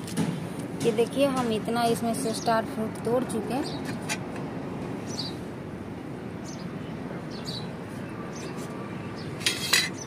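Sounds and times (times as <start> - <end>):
steady outdoor background: 0.0 - 10.0.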